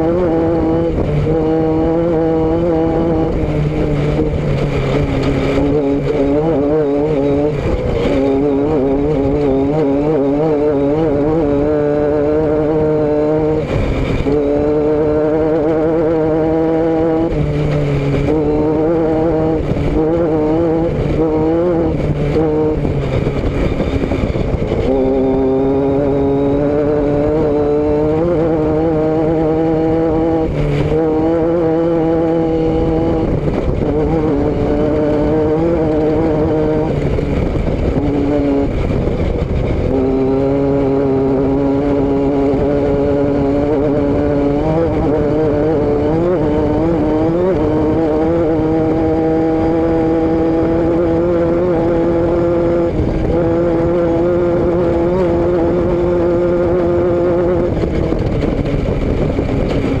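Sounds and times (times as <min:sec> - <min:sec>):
vehicle engine droning: 0:00.0 - 1:00.0.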